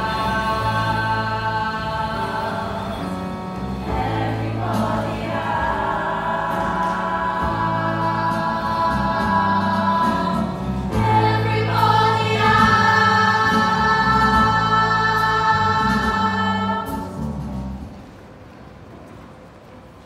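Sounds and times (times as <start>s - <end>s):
women singing together: 0.0s - 17.1s
music: 0.0s - 20.0s.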